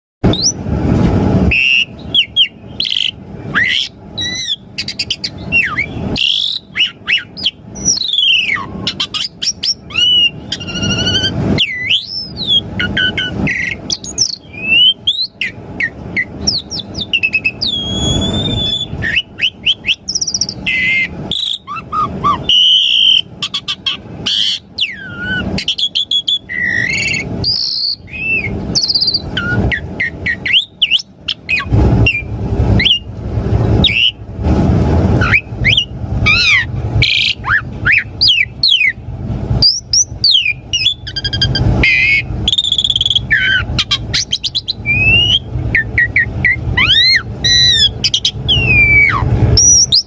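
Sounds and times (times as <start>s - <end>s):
starling singing whistles and trills: 0.2s - 0.7s, 1.4s - 34.3s, 35.1s - 50.0s
harsh raspy bird chatter: 1.6s - 33.0s, 35.2s - 39.0s, 39.6s - 50.0s.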